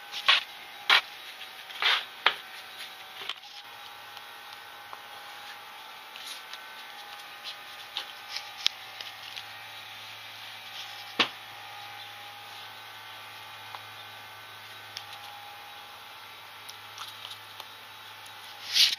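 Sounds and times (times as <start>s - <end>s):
steady electrical hum: 0.0s - 18.9s.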